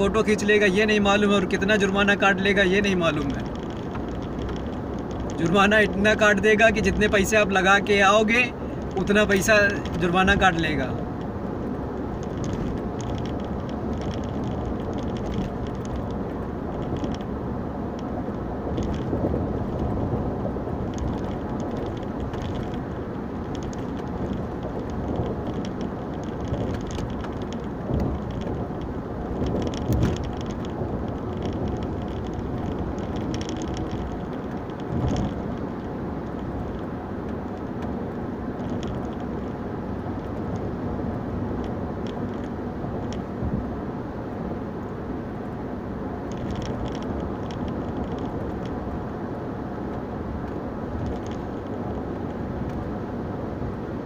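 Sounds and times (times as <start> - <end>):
car road noise at highway speed: 0.0 - 54.0.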